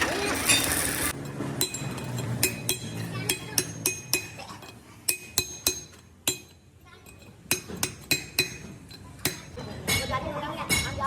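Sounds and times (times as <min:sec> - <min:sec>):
metal tools clinking: 0:00.0 - 0:09.8.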